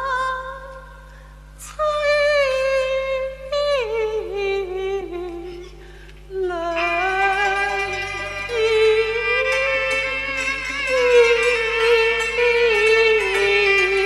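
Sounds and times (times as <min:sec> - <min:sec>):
woman singing opera: 0:00.0 - 0:01.0, 0:01.6 - 0:14.0.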